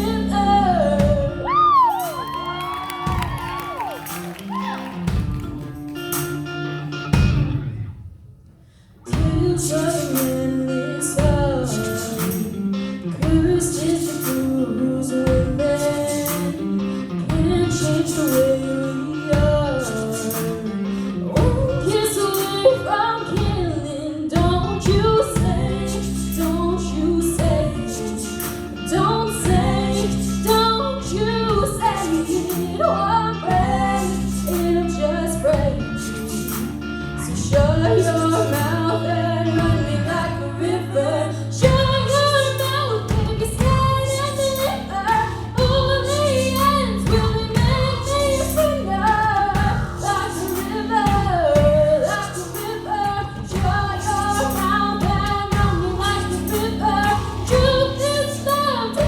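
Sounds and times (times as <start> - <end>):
woman singing: 0.0 - 5.1, 9.1 - 59.0
guitar accompaniment: 0.0 - 59.0.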